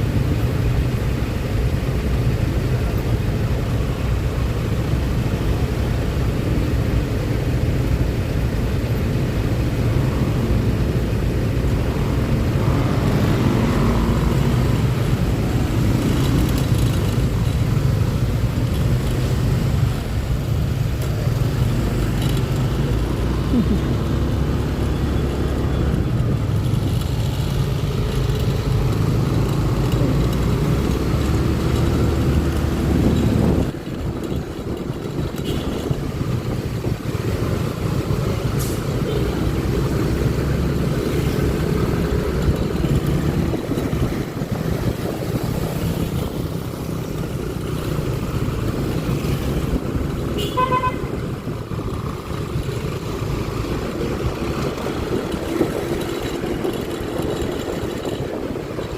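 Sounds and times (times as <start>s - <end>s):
wind and road noise: 0.0s - 58.9s
scooter engine running: 10.6s - 58.9s.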